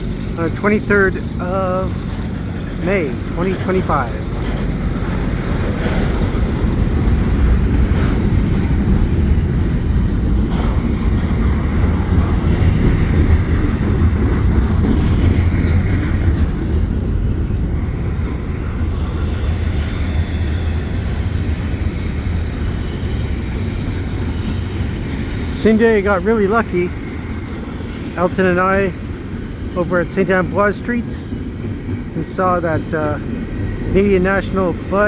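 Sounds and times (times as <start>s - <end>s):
freight train rumbling on rails: 0.0s - 35.0s.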